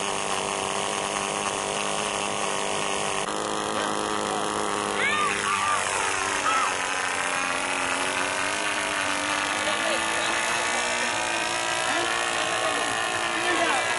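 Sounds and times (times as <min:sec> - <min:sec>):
model aircraft motor droning: 0:00.0 - 0:13.9.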